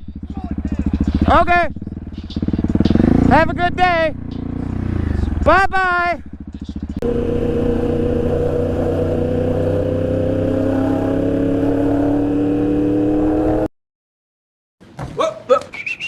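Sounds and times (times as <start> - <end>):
motorcycle engine accelerating: 0.0 - 13.7.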